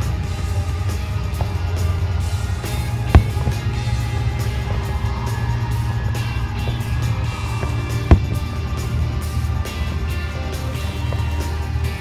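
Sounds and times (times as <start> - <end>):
firework exploding: 0.0 - 12.0
music with heavy bass: 0.0 - 12.0.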